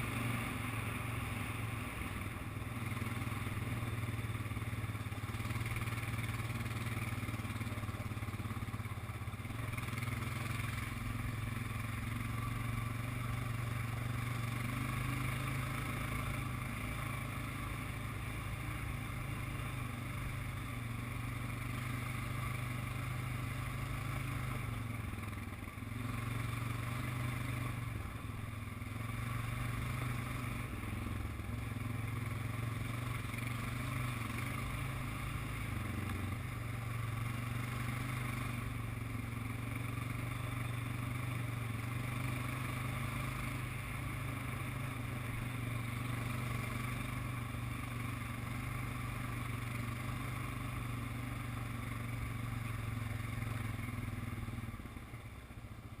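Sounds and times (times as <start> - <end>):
atv engine running under throttle: 0.0 - 56.0.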